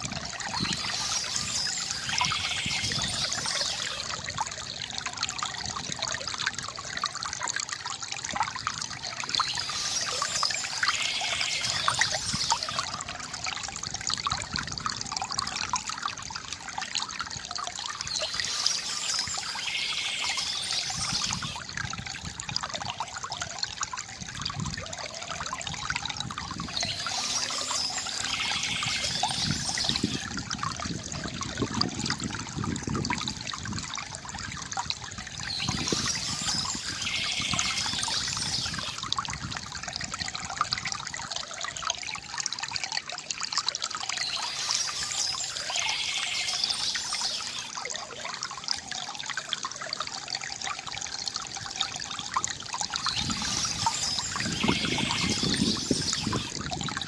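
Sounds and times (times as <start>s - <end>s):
water trickling from fountain: 0.0s - 57.0s.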